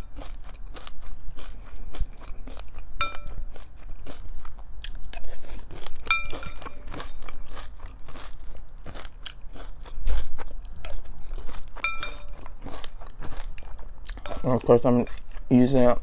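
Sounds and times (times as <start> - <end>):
crunching and chewing cereal: 0.0 - 15.8.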